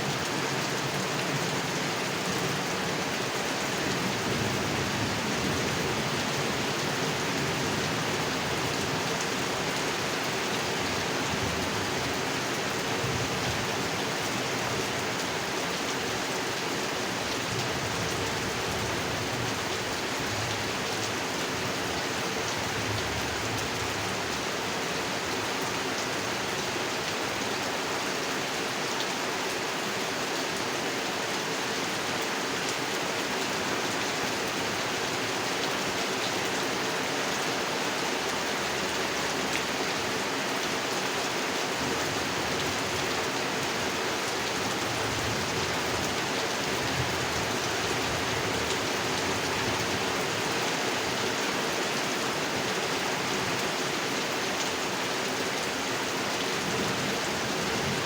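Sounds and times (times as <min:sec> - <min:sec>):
rain falling onto a pond: 0:00.0 - 0:58.0.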